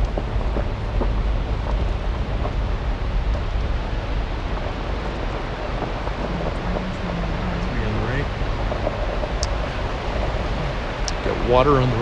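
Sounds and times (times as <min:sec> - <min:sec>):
engine and tyres rumbling: 0:00.0 - 0:12.0
gravel crackling under tyres: 0:00.0 - 0:12.0.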